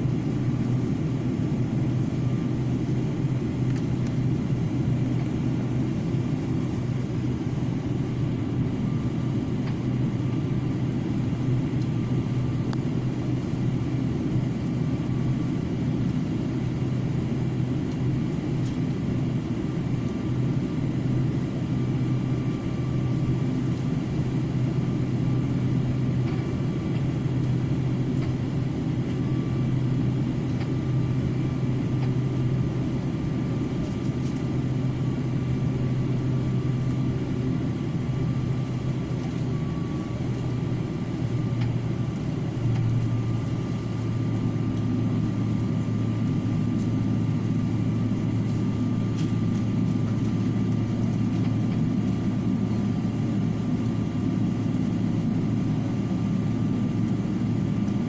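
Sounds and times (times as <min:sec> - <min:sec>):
thin steady whine: 0:00.0 - 0:58.0.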